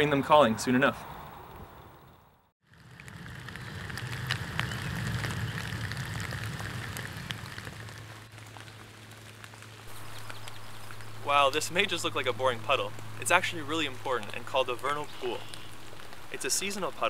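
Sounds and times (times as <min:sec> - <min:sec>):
low rumble: 0:02.7 - 0:17.0.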